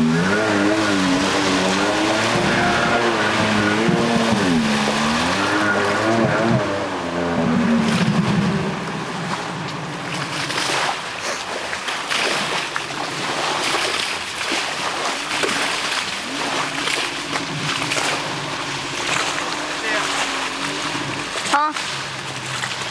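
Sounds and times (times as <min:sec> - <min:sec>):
water rushing and splashing: 0:00.0 - 0:22.9
watercraft engine: 0:00.0 - 0:22.9.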